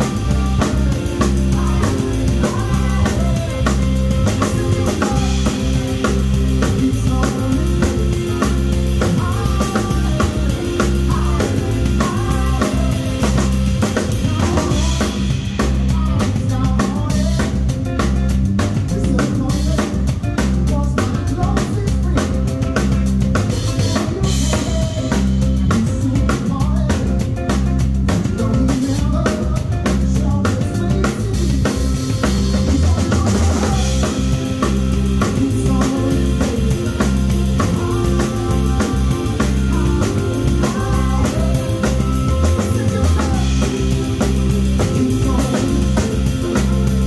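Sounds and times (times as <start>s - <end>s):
bass guitar: 0.0s - 47.0s
drum kit groove: 0.0s - 47.0s
live band playing: 0.0s - 47.0s.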